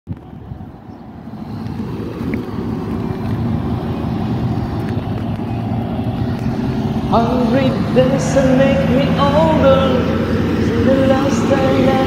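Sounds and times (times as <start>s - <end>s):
wind rumble on microphone: 0.1s - 12.0s.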